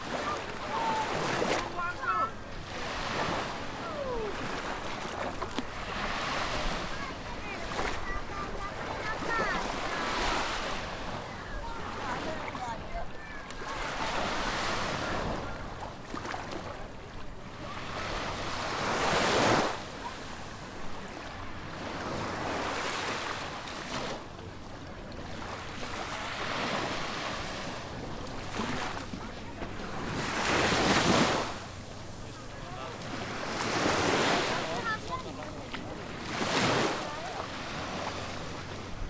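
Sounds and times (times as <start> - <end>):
waves breaking on sandy beach: 0.0 - 39.0.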